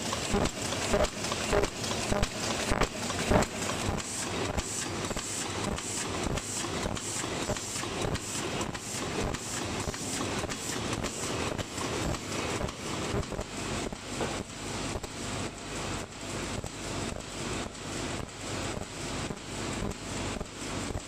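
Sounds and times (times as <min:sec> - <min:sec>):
machine clattering rhythmically: 0:00.0 - 0:21.0.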